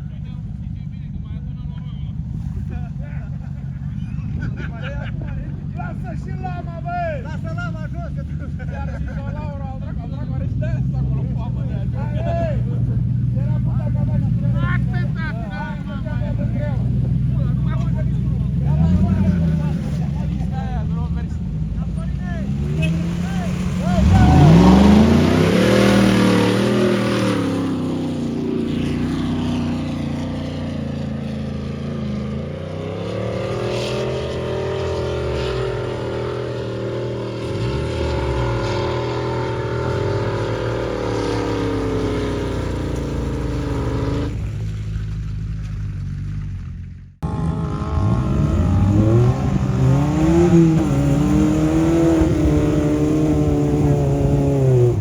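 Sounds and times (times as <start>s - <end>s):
off-road engine labouring: 0.0s - 55.0s.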